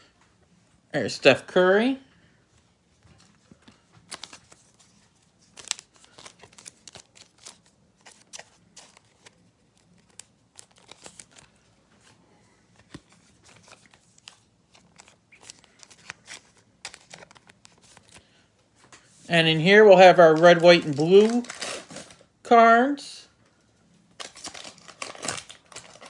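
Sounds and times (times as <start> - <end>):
cards and plastic wrappers rustling: 2.9 - 22.3, 24.0 - 26.0.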